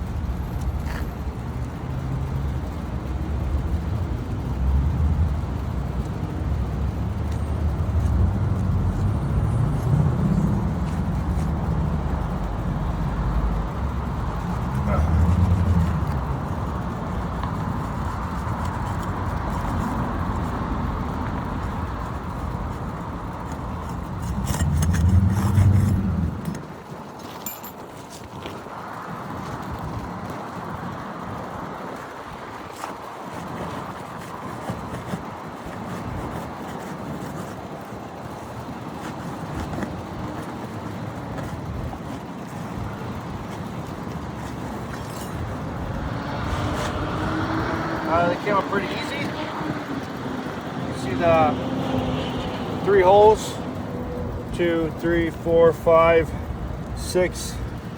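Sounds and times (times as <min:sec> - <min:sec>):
traffic background: 0:00.0 - 0:57.9
vehicle engine hum: 0:00.0 - 0:57.9.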